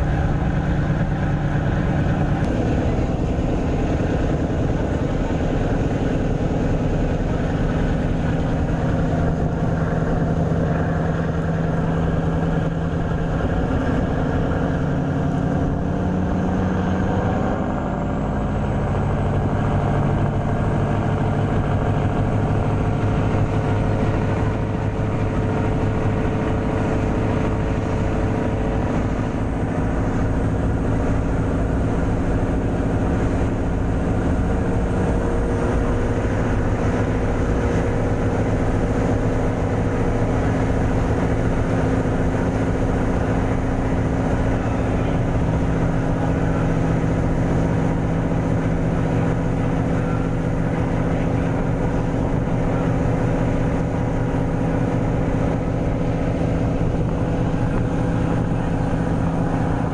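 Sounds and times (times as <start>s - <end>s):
ferry engines running: 0.0s - 59.9s
water rushing along hull: 0.0s - 59.9s.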